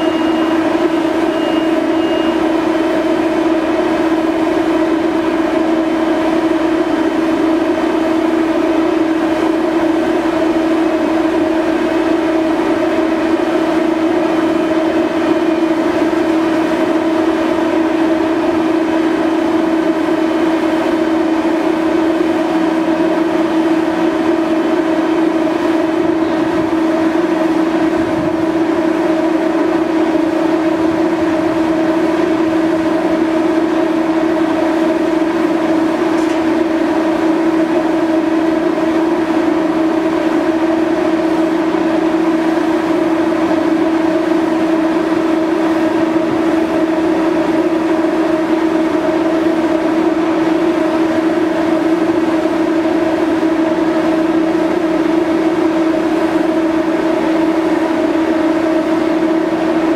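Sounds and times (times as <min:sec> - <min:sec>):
ship machinery drone: 0:00.0 - 0:59.9.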